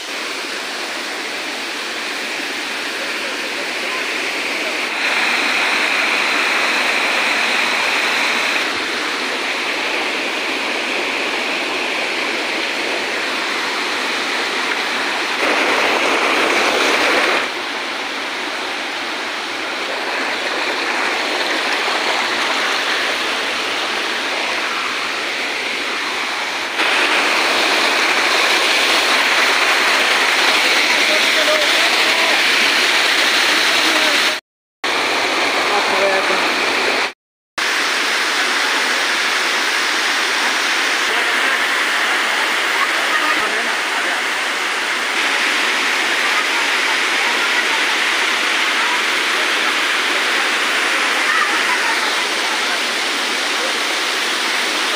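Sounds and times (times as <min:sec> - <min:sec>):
waterfall splashing over rocks: 0:00.0 - 0:54.9.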